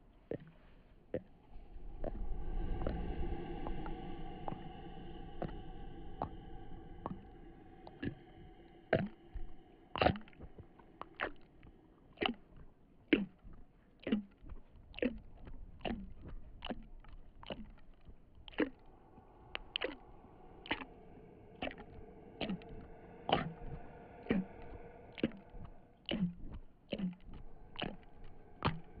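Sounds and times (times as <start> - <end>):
low steady drone: 1.1 - 13.0, 15.2 - 29.0.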